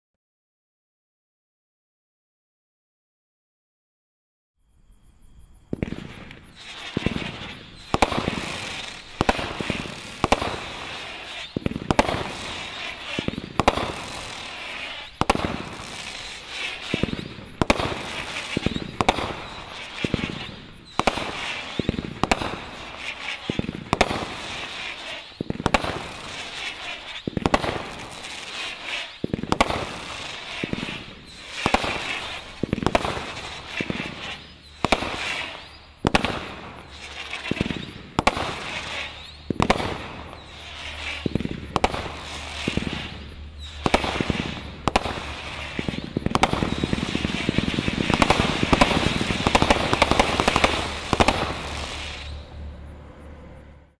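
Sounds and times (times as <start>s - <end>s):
fireworks bangs: 5.7s - 52.6s
hissing crackle of bursts: 5.7s - 52.7s.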